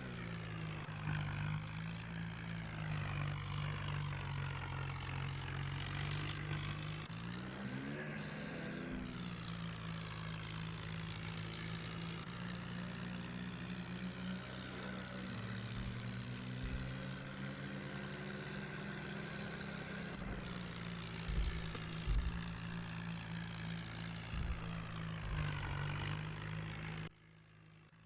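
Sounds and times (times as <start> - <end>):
tractor diesel engine running: 0.0 - 27.1.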